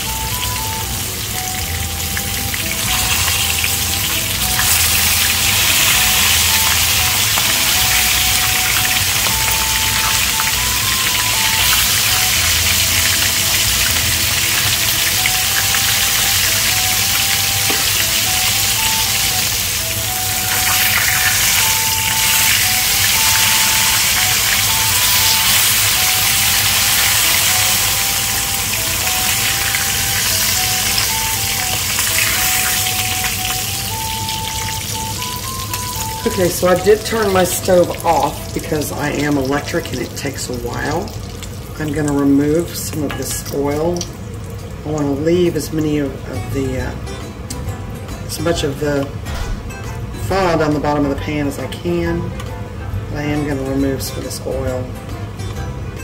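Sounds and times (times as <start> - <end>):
chicken sizzling in hot oil: 0.0 - 46.2
simple background melody: 0.0 - 56.0.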